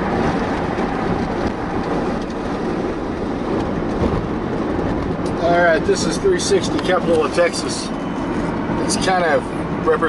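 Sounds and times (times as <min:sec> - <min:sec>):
tyres rumbling on pavement: 0:00.0 - 0:10.0
wind noise inside vehicle: 0:00.0 - 0:10.0.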